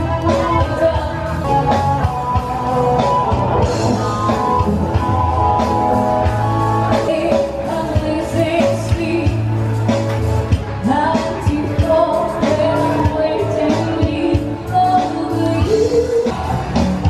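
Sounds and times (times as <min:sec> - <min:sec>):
song with singing guitar and drums: 0:00.0 - 0:17.0.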